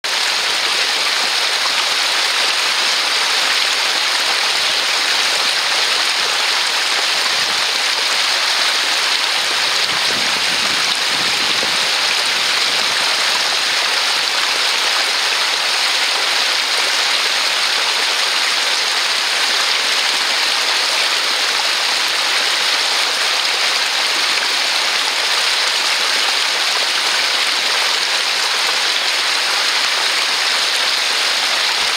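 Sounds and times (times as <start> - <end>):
stream splashing over stones: 0.0 - 31.9.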